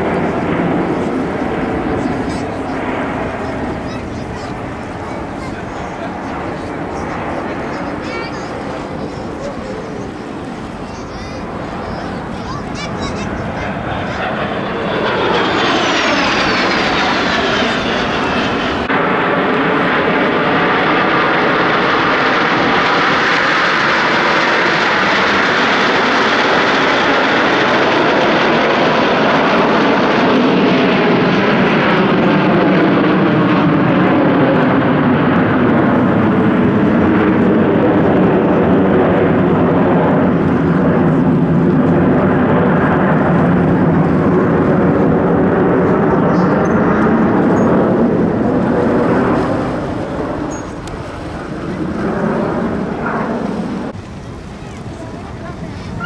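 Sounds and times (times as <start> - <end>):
high turbine whistle: 0.0 - 38.0, 42.5 - 54.3
jets flying past: 0.0 - 56.0.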